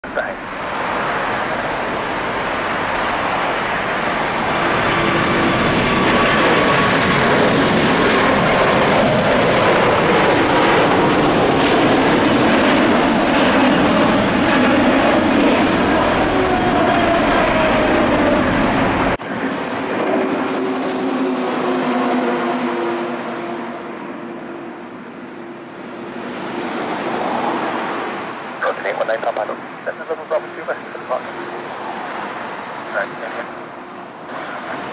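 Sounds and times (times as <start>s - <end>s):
jet engine roar with whine: 0.0s - 34.9s.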